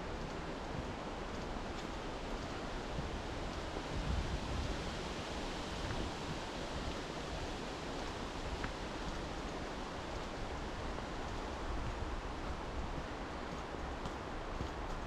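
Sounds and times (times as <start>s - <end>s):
wind buffeting microphone: 2.5s - 15.0s.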